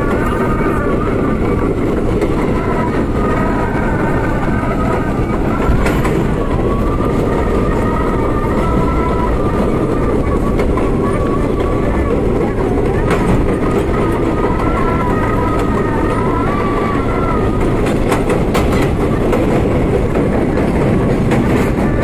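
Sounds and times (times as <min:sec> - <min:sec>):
subway wheels rumbling on rail: 0:00.0 - 0:22.0.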